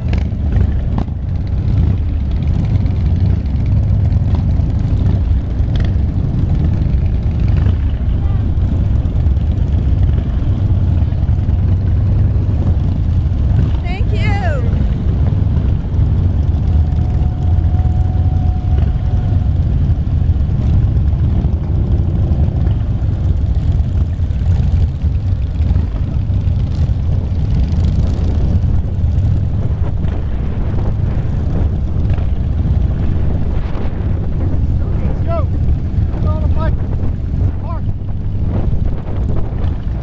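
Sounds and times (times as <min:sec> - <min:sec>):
motorcycle engine low rumble: 0:00.0 - 0:40.0.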